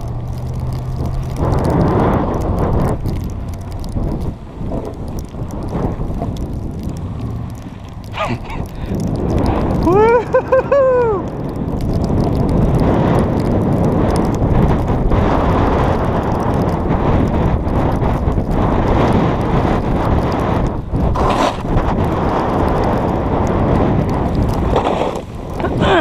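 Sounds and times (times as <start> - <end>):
snowboard sliding over snow: 0.0 - 26.0
wind buffeting microphone: 0.0 - 26.0.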